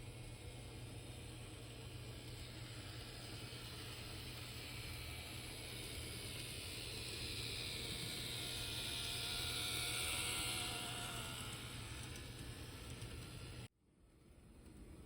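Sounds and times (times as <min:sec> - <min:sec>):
model train motor whirring: 0:00.0 - 0:13.7.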